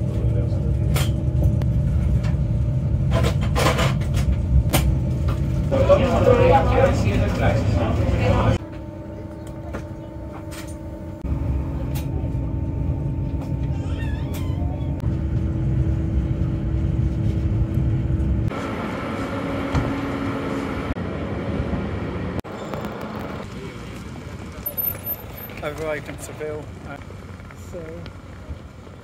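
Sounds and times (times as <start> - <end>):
train rumbling: 0.0 - 8.8, 9.8 - 29.0
train humming tone: 0.0 - 28.9.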